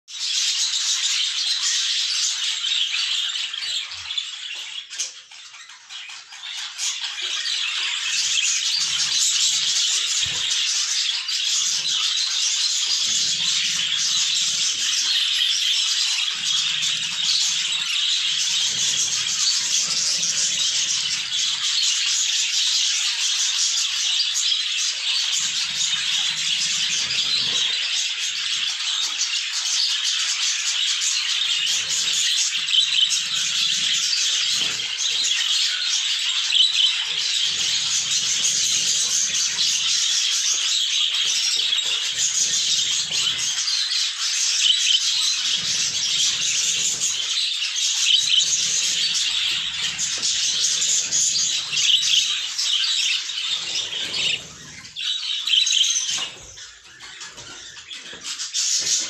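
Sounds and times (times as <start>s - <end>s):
budgerigars chirping and squawking: 0.1s - 59.0s.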